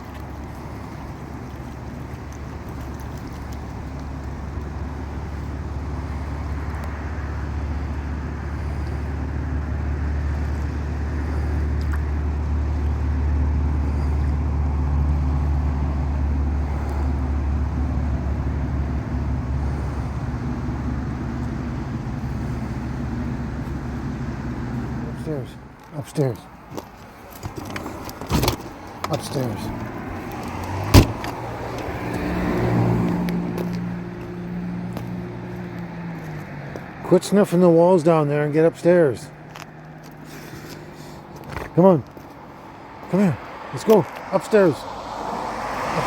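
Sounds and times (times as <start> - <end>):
vehicle engine and road noise: 0.0 - 46.0.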